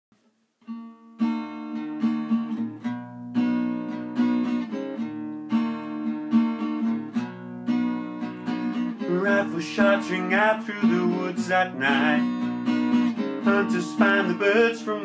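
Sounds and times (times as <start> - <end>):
acoustic guitar strumming chords: 0.6 - 15.0.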